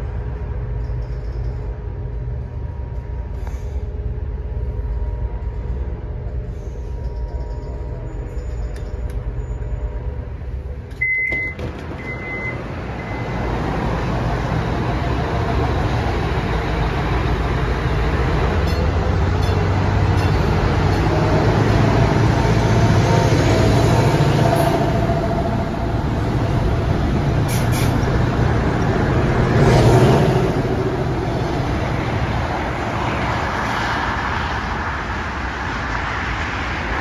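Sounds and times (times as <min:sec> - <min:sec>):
diesel railcar rumbling: 0:00.0 - 0:37.0
rushing rumble: 0:00.0 - 0:37.0.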